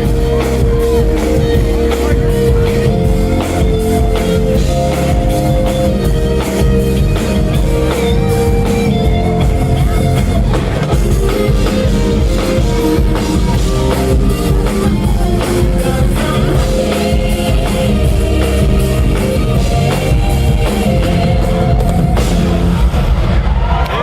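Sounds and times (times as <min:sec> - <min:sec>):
live band with drums and guitar: 0:00.0 - 0:24.0.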